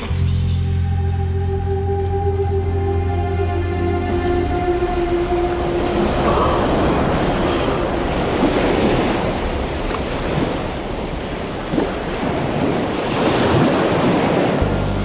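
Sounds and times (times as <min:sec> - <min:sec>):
waves breaking and churning: 0:00.7 - 0:15.0
wind blowing over water: 0:01.1 - 0:15.0.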